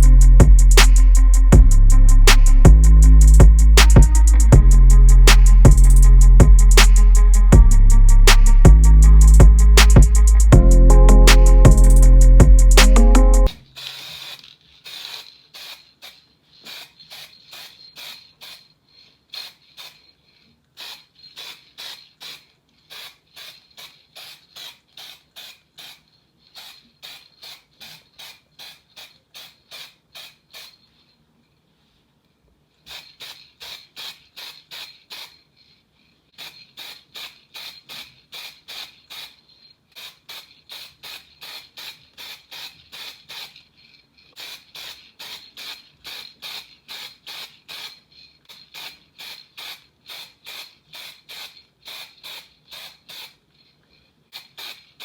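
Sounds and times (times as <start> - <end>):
hand rubbing abrasive strokes: 0.0 - 32.1, 32.8 - 55.0.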